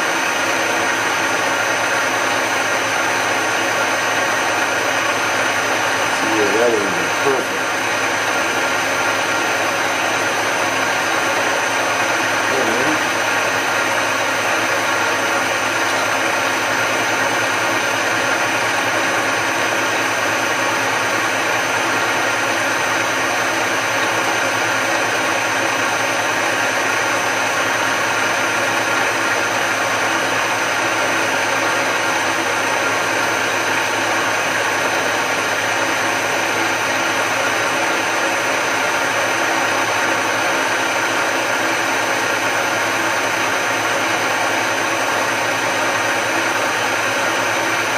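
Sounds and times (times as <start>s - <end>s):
milling machine motor whine: 0.0s - 47.9s.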